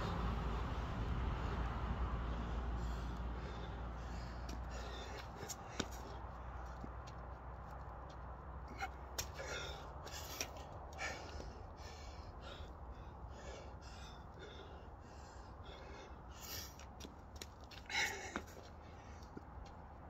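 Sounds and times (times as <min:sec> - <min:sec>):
man breathing hard: 0:00.0 - 0:06.9, 0:08.6 - 0:17.1, 0:17.7 - 0:19.5.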